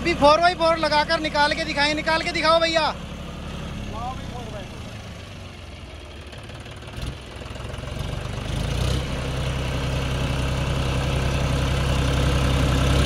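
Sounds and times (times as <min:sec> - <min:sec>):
tractor diesel engine straining: 0:00.0 - 0:13.0.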